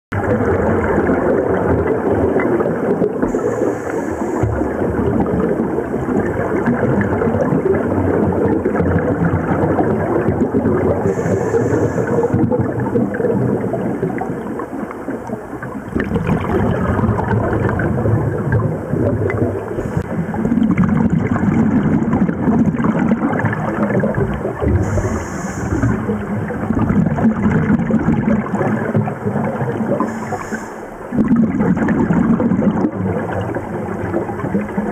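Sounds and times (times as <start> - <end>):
regulator air bubbling underwater: 0.1 - 34.9.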